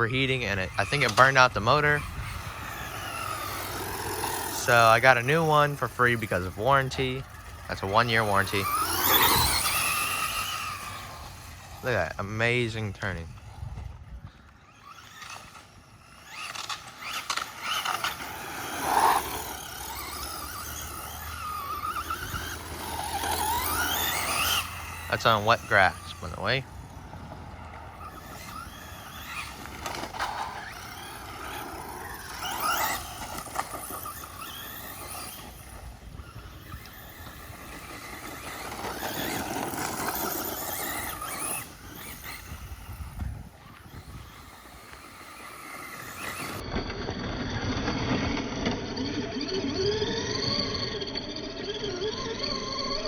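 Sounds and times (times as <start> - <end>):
toy truck electric motor whining: 0.0 - 53.0.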